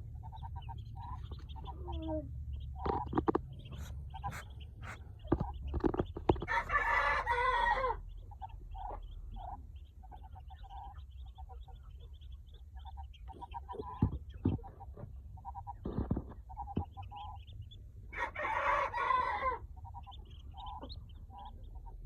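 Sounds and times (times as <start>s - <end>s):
chicks peeping: 0.0s - 22.0s
low steady hum: 0.0s - 22.0s.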